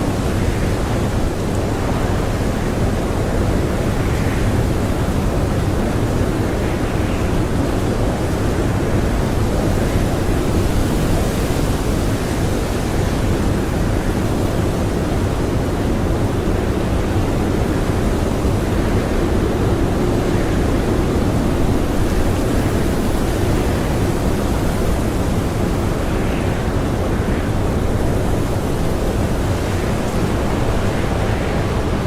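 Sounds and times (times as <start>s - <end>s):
blizzard wind blowing: 0.0s - 32.0s.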